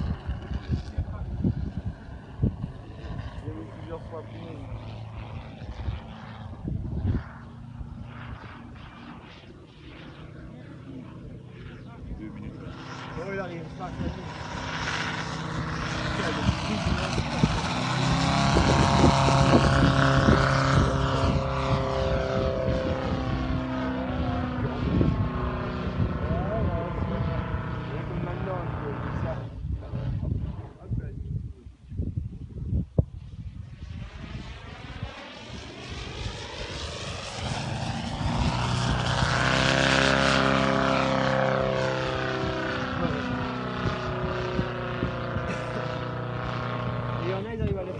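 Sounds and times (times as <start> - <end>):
model plane engine and propeller: 0.0 - 47.9.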